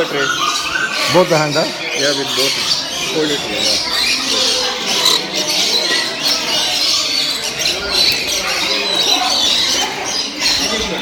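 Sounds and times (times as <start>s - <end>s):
birds chattering and squawking: 0.0s - 11.0s
people's voices: 0.0s - 11.0s.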